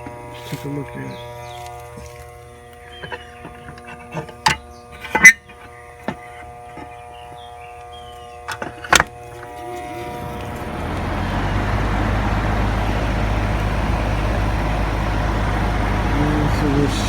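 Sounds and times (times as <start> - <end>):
rooftop unit humming: 0.0 - 17.0.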